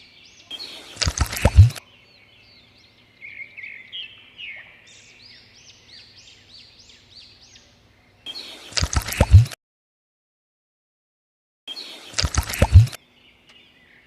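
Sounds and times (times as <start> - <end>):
bird chirping: 0.0 - 9.6, 11.7 - 14.0.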